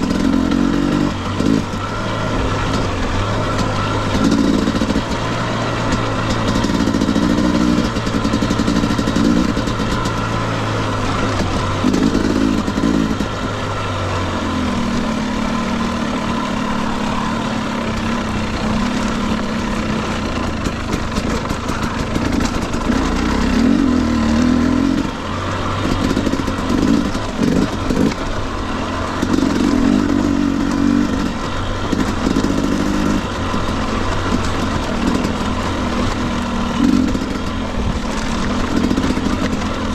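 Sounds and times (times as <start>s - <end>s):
clatter: 0.0s - 39.9s
dirt bike engine revving: 0.0s - 39.9s.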